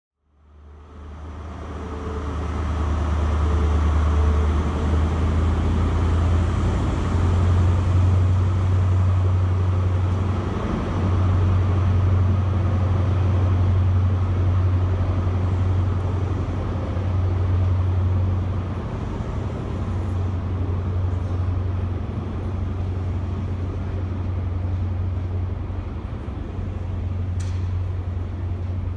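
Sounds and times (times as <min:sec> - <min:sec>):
train diesel engine droning: 0:00.2 - 0:28.9.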